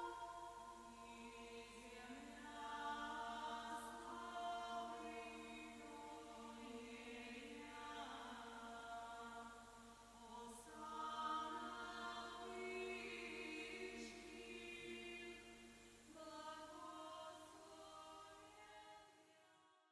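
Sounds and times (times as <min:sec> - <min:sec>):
faint choral music: 0:00.0 - 0:19.9.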